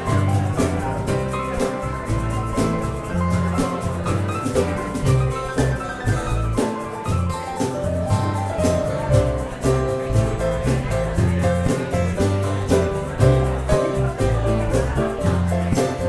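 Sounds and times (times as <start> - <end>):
bass line: 0.0 - 16.0
drums and percussion: 0.0 - 16.0
held melodic notes: 0.0 - 16.0.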